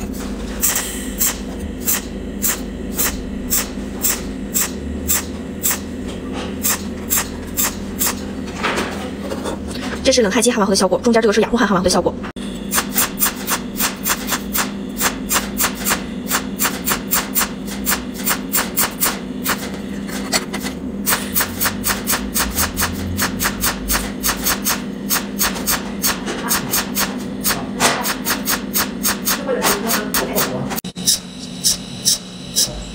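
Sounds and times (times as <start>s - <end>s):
welding arc snapping pulses: 0.0s - 6.0s, 6.6s - 8.3s, 12.7s - 19.9s, 20.5s - 32.8s
steady low hum: 0.0s - 32.9s.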